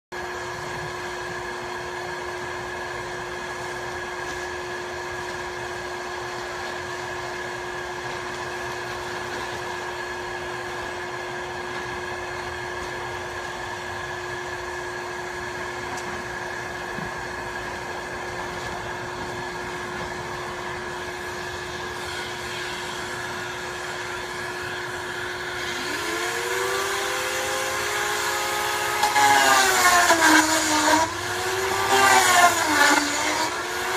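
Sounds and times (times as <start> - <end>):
motor starting with rising whine: 0.2 - 33.9
steady motor drone: 0.2 - 33.9.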